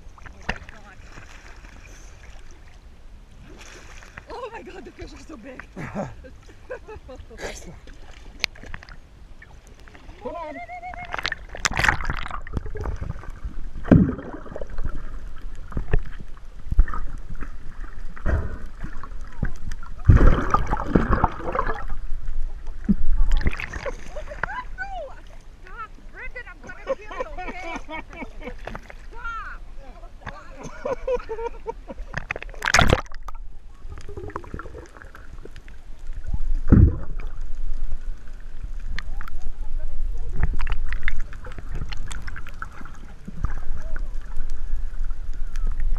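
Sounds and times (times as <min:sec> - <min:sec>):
water sloshing and splashing: 0:00.0 - 0:45.9.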